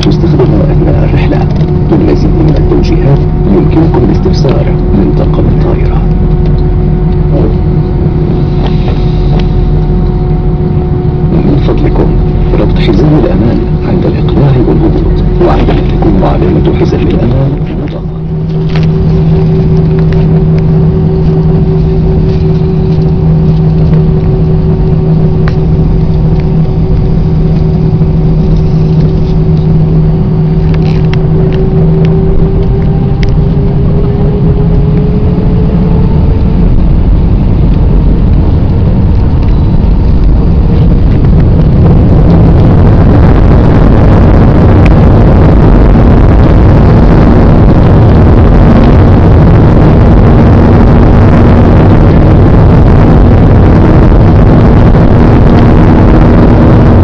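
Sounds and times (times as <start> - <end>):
jet cabin engine hum: 0.0 - 57.0
jet engines spooling up: 0.0 - 57.0.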